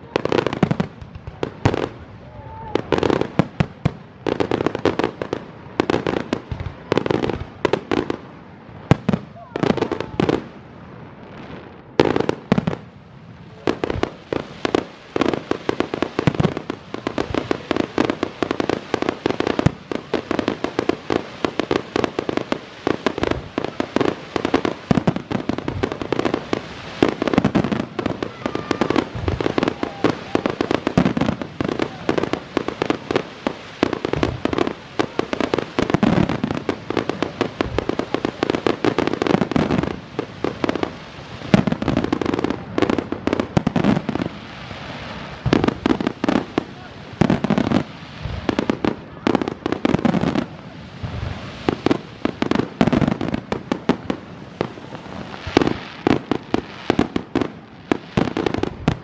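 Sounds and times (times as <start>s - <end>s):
fireworks bursts and crackling: 0.0s - 59.0s.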